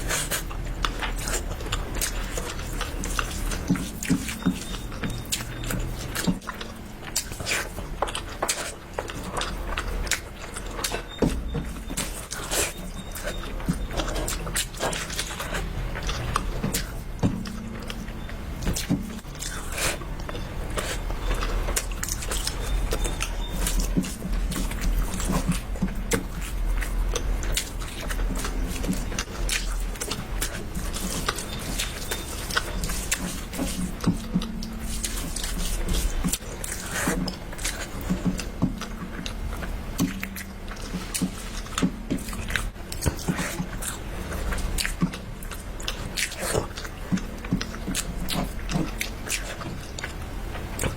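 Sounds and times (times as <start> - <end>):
crunchy chewing: 0.0 - 50.9
steady low hum: 0.0 - 50.9.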